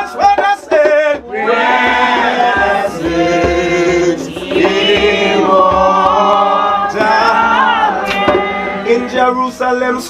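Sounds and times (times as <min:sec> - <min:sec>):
congregation singing a hymn: 0:00.8 - 0:09.8.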